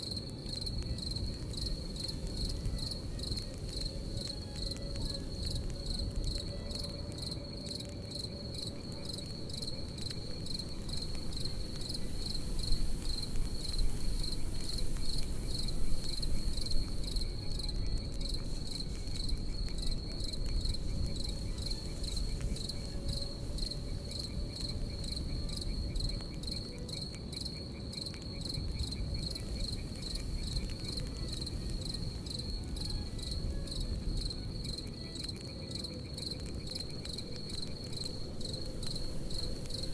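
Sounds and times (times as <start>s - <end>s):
campfire rumble and crackle: 0.0s - 39.9s
crickets chirping: 0.0s - 39.9s.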